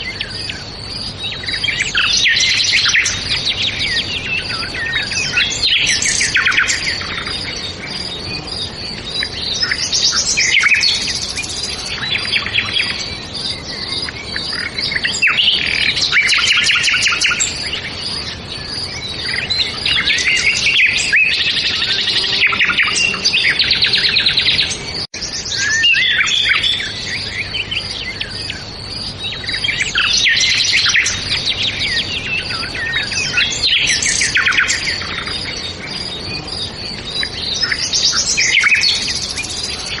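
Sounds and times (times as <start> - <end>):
songbirds trilling and chirping: 0.0 - 40.0.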